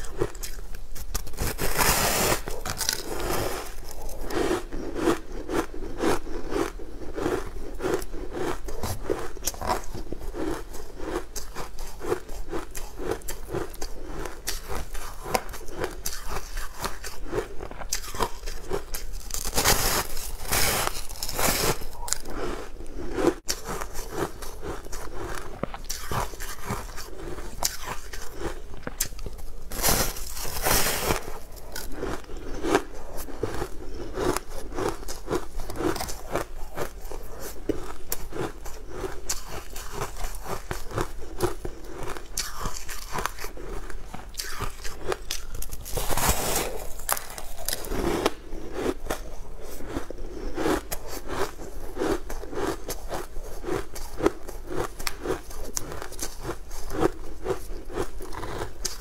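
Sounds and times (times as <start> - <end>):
crunching ice bar: 0.0 - 59.0
scraping in frozen crumbs: 0.1 - 59.0.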